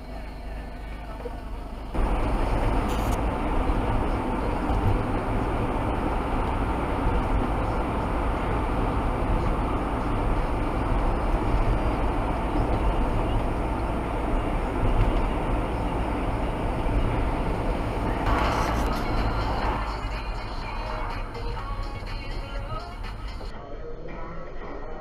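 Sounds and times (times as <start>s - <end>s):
tyres and engine rumbling: 0.0s - 23.6s.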